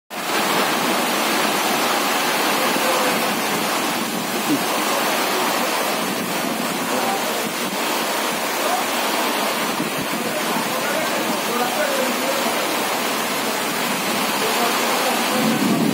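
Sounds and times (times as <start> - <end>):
heavy rain pouring: 0.1 - 15.9.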